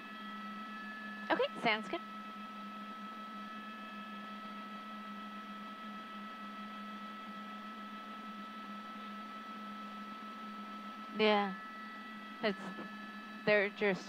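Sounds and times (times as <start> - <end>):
helicopter cabin hum with tones: 0.0 - 14.0.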